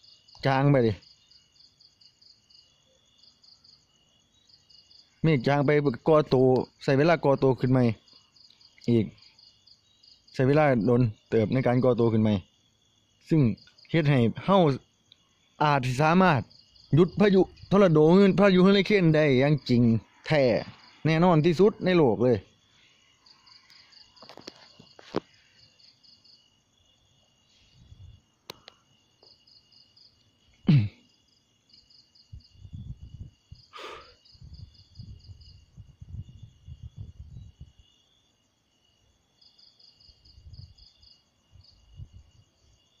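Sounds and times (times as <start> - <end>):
high insect trill: 0.0 - 43.0
insects chirping: 0.0 - 43.0.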